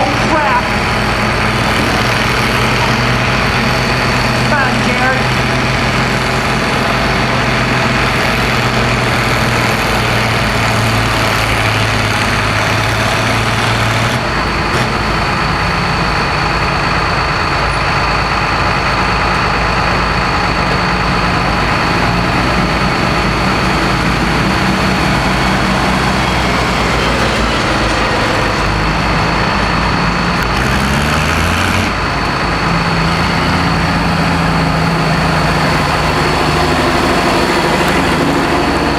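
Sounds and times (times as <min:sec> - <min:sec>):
tractor engine running hard: 0:00.0 - 0:38.9.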